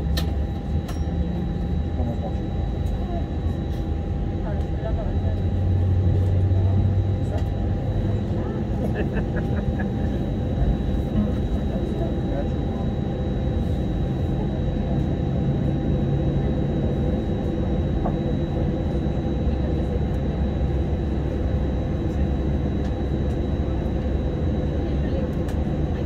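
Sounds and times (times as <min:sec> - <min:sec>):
airplane cabin low rumble: 0:00.0 - 0:26.0.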